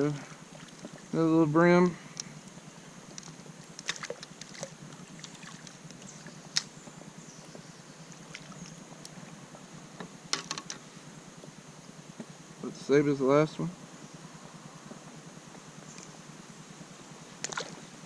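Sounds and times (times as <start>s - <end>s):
water around a kayak: 0.0s - 18.0s
wind: 0.0s - 18.0s.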